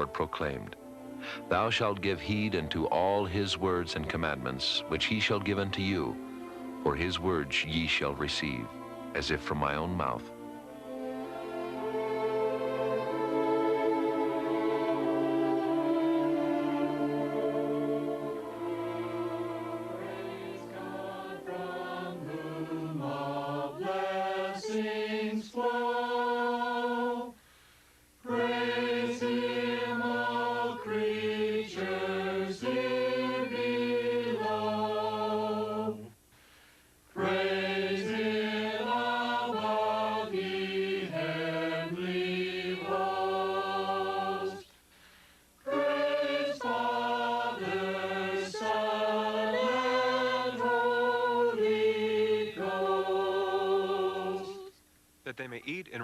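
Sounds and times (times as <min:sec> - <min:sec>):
choir singing a hymn: 0:00.0 - 0:27.4, 0:28.2 - 0:36.2, 0:37.1 - 0:44.7, 0:45.6 - 0:54.8.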